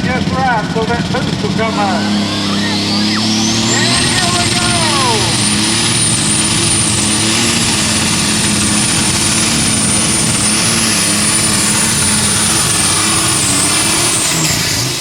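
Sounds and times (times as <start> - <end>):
high turbo whine: 0.0 - 15.0
tractor engine running flat out: 0.0 - 15.0.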